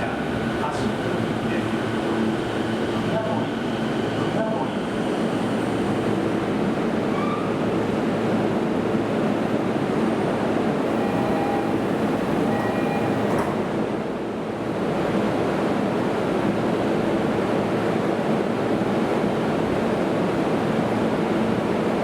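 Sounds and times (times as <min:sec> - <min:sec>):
train rolling rumble: 0:00.0 - 0:22.0.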